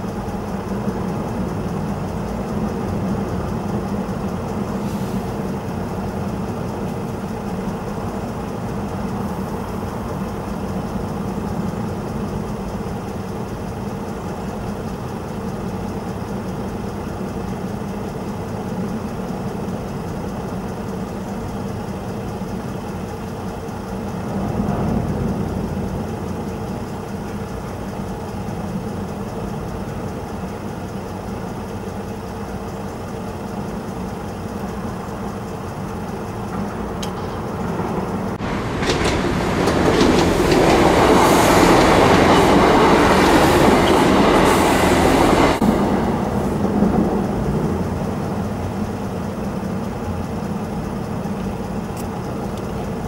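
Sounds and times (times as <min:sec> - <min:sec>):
lorry diesel engines idling: 0:00.0 - 0:53.0
road traffic: 0:00.0 - 0:53.0.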